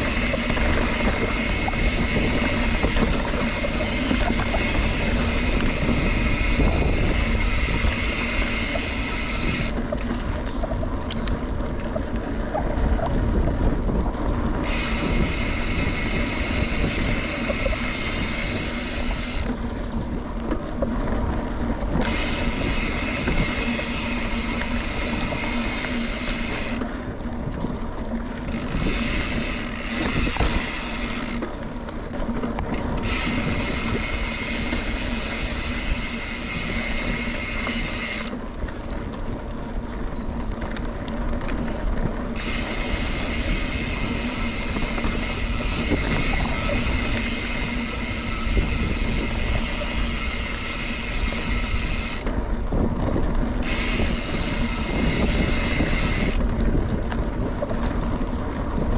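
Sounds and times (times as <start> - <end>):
bike rattling and knocking: 0.0 - 58.9
bike tyres on dirt: 0.0 - 58.9.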